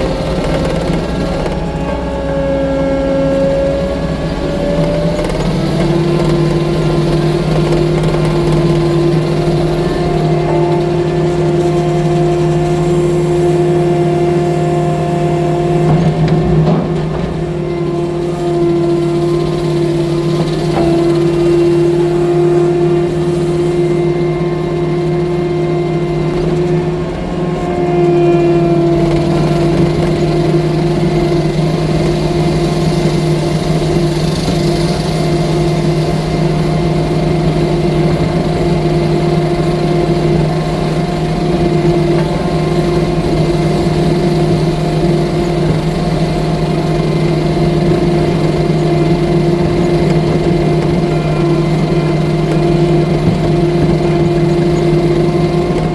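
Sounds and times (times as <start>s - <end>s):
loader diesel engine running: 0.0s - 55.9s.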